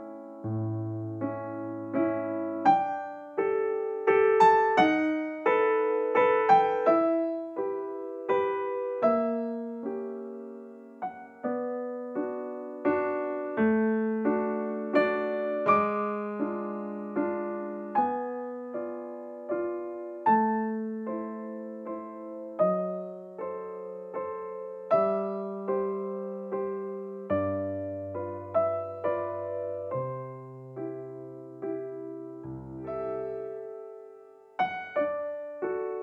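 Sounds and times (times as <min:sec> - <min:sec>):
slow gentle piano tune: 0:00.0 - 0:36.0.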